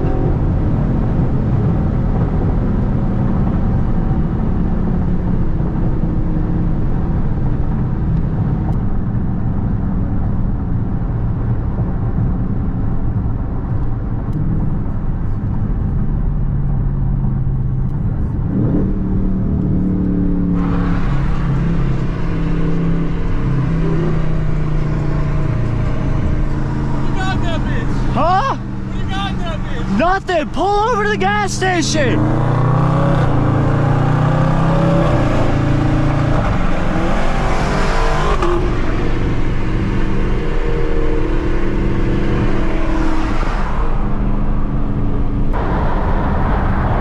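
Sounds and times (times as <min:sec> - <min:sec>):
car engine: 0:00.0 - 0:47.0
road noise: 0:00.0 - 0:47.0.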